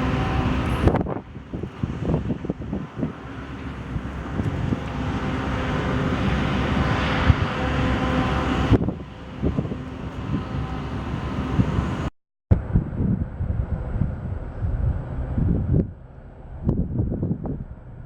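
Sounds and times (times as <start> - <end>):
vehicle engine hum: 0.0 - 18.0
wind rumbling on microphone: 0.0 - 18.0.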